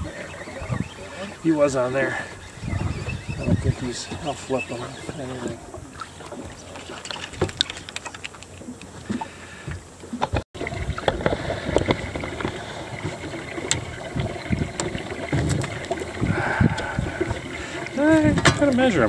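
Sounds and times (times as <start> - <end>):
light wind: 0.0 - 19.0
water lapping against boat: 0.0 - 19.0.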